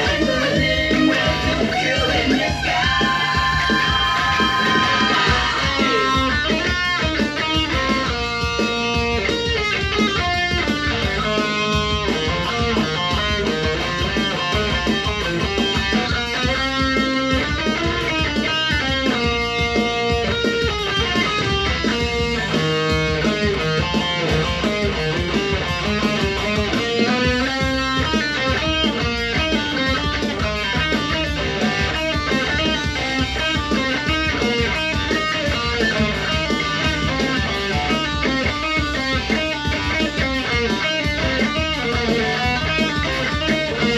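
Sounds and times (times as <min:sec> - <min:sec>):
backing track drums: 0:00.0 - 0:43.9
electric guitar metal riffs: 0:00.0 - 0:43.9.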